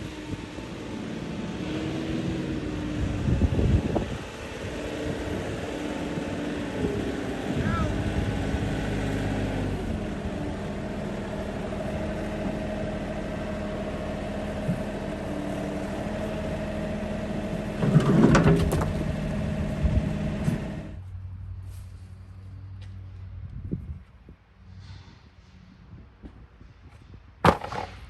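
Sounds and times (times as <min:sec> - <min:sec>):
engine humming: 0:00.0 - 0:23.5.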